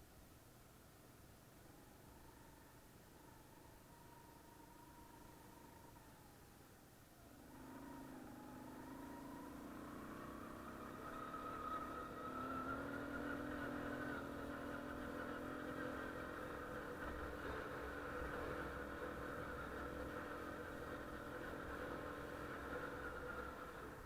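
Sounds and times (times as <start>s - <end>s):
small atv engine running: 1.7s - 24.0s.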